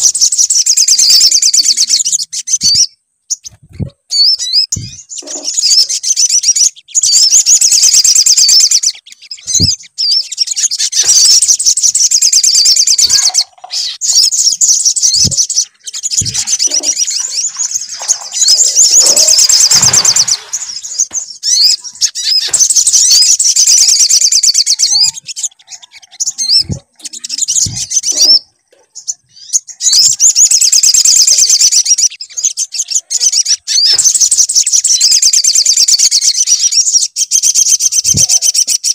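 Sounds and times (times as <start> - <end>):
songbird chirping trills: 0.0 - 38.9.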